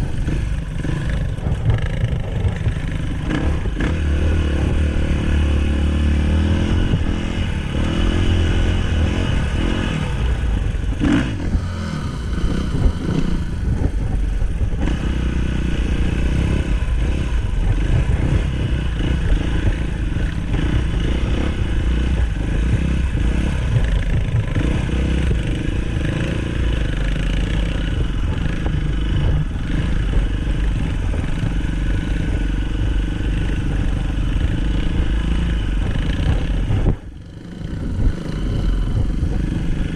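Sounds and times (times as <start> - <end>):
bike rattling over rough ground: 0.0 - 39.9
dirt bike engine running: 0.0 - 39.9.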